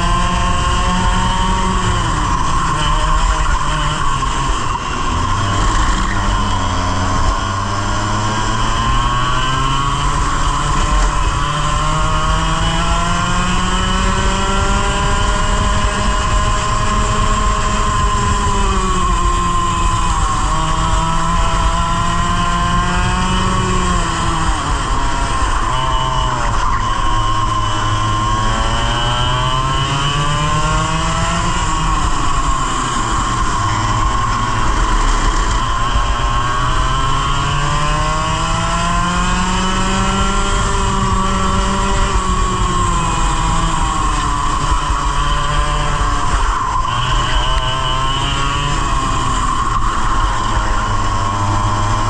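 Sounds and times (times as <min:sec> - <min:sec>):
kart engine revving: 0:00.0 - 0:52.0.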